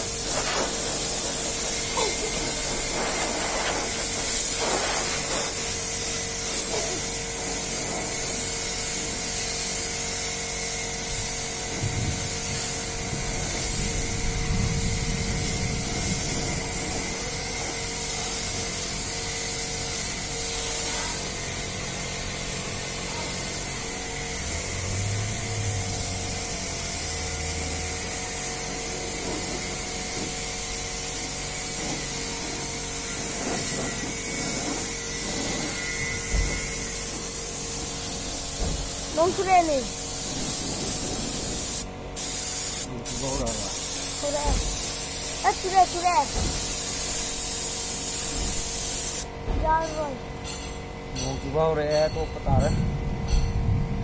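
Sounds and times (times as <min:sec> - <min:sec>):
paint spray gun hissing: 0:00.0 - 0:50.1.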